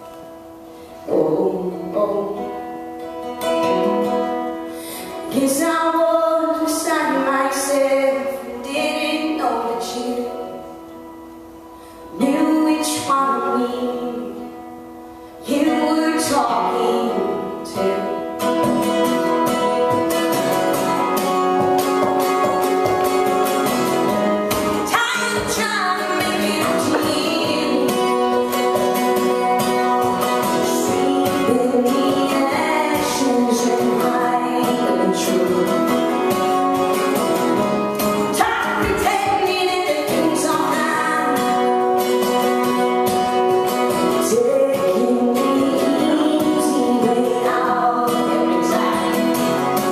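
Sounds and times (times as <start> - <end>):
strummed acoustic guitar: 0.0 - 49.9
woman singing: 1.0 - 10.9, 12.1 - 14.8, 15.4 - 22.9, 23.7 - 49.9.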